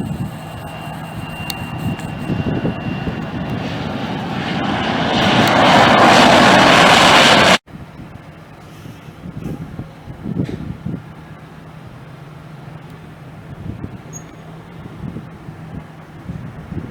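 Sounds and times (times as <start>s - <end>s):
jet airliner engine roar: 0.0s - 16.9s.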